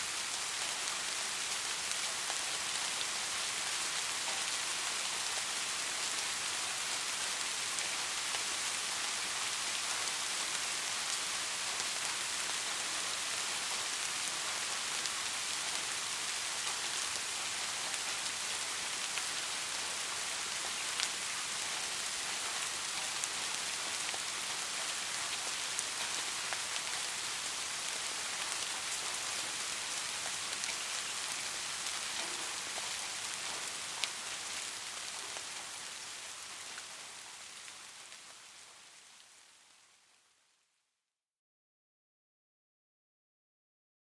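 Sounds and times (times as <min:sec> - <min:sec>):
steady rain falling: 0:00.0 - 0:40.7.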